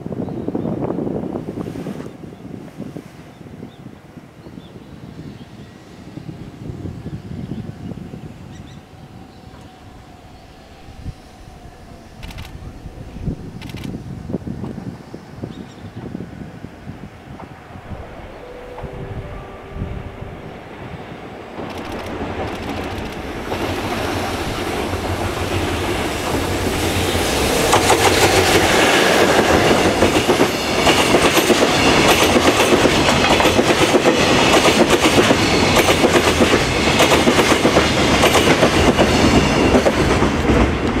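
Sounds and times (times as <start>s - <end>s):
freight train rumble: 3.6s - 41.0s.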